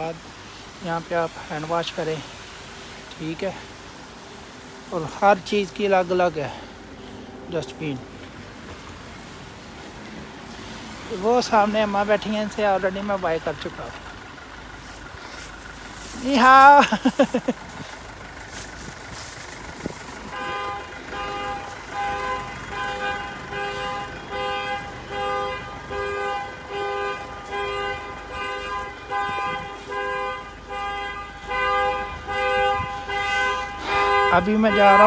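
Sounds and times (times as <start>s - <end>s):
light street noise: 0.0s - 35.0s.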